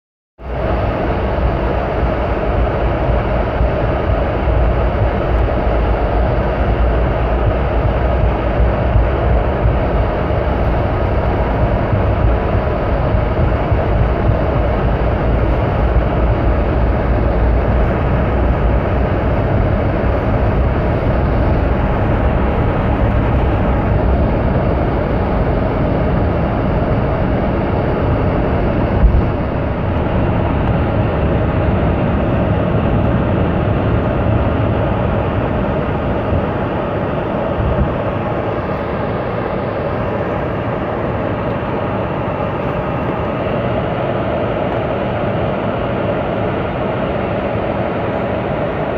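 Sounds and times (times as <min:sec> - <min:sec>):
jet engines at takeoff thrust: 0:00.4 - 0:48.9
wheels rumbling on runway: 0:00.4 - 0:48.9.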